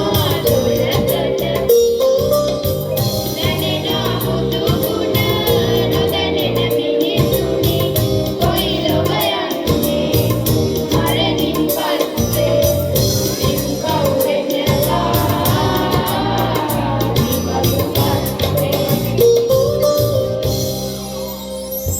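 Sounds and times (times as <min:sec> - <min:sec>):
group singing devotional song: 0:00.0 - 0:02.0, 0:03.3 - 0:19.2
accompaniment with low beat: 0:00.0 - 0:20.8.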